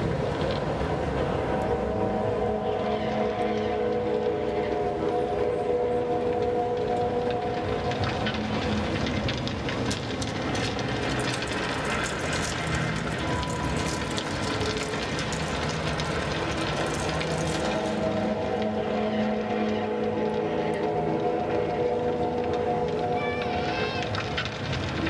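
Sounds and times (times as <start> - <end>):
droning tones: 0.0 - 25.0
rushing crackling noise with clicks: 0.0 - 25.0.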